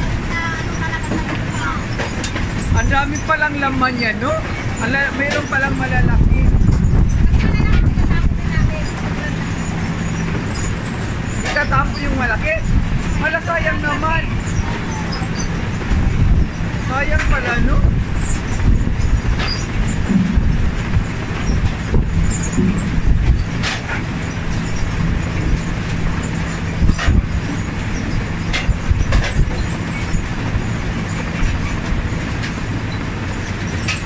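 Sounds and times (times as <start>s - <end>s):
harvester machine rumble: 0.0s - 34.0s.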